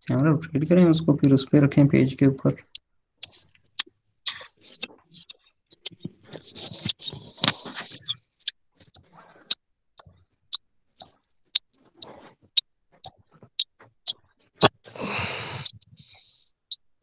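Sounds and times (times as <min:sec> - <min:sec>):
light even ticking: 0:02.5 - 0:16.8.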